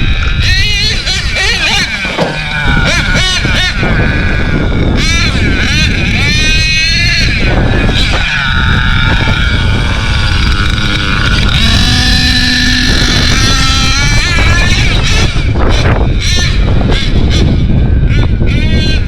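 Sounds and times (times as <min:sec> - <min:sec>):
model engine high-pitched whine: 0:00.0 - 0:19.0
wind rumble on microphone: 0:00.0 - 0:19.0.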